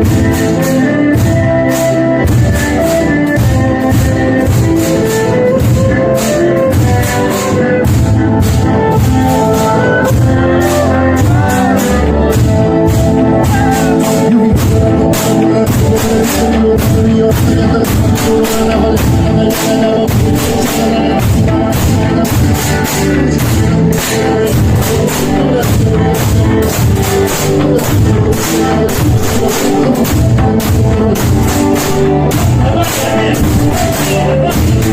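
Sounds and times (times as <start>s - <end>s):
held melody: 0.0s - 34.9s
struck barrels and sickles beat: 0.0s - 34.9s.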